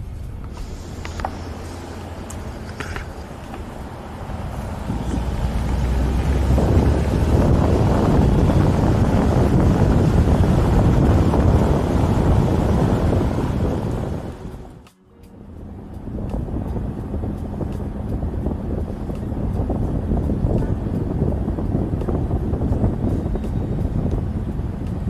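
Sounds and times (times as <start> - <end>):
vehicle road noise rumble: 0.0 - 25.0
wind rushing over microphone: 0.0 - 25.0.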